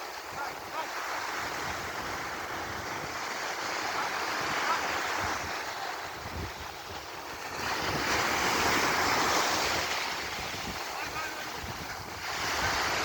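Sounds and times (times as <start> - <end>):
sea surf breaking: 0.0 - 13.0
wind buffeting microphone: 0.0 - 13.0.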